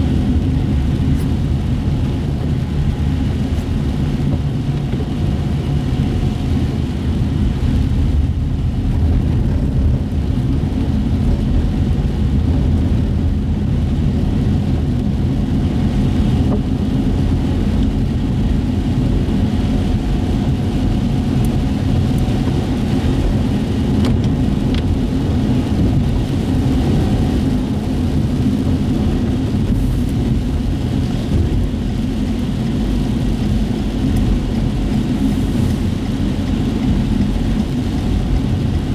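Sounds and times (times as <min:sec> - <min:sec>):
car engine rumble: 0:00.0 - 0:38.9
tyres on wet road: 0:00.0 - 0:38.9.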